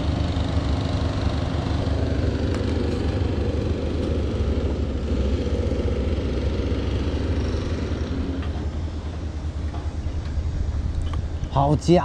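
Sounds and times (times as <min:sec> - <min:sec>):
low rumble: 0:01.0 - 0:11.9.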